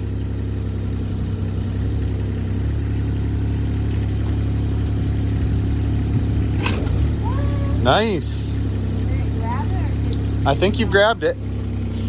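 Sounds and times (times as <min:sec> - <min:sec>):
diesel engine running: 0:00.0 - 0:12.0
hydraulics working: 0:00.0 - 0:12.0.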